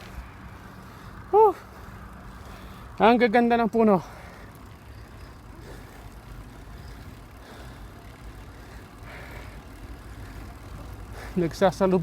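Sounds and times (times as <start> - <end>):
bicycle tyre noise: 0.0 - 12.0.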